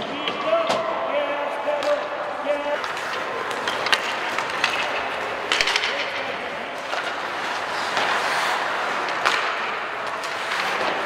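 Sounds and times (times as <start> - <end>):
distant voices: 0.0 - 11.0
hockey sticks and puck clacking: 0.0 - 11.0
skate blades scraping ice: 1.2 - 11.0.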